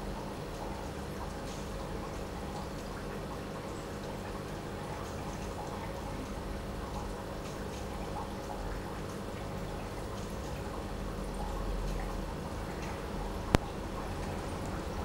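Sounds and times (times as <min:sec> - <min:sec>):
low equipment hum: 0:00.0 - 0:15.0
water trickling and dripping: 0:00.0 - 0:15.0.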